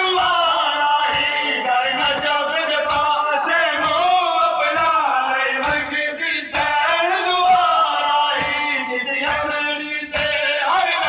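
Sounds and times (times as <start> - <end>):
hands beating chests: 0.0 - 11.0
men chanting in unison: 0.0 - 11.0.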